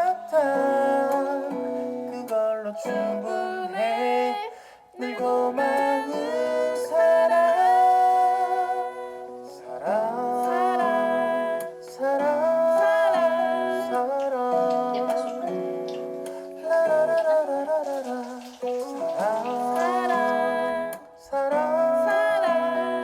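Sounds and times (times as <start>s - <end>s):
woman singing long notes: 0.0s - 15.7s, 16.6s - 23.0s
plucked guitar: 0.0s - 23.0s.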